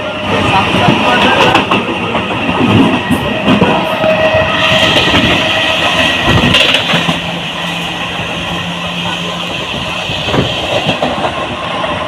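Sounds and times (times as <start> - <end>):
train rattling on rails: 0.0 - 12.0.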